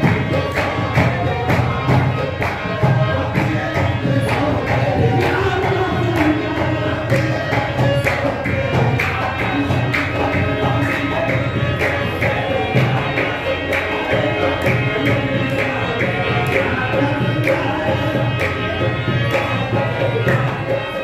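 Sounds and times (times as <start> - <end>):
tabla drum beat: 0.0 - 21.0.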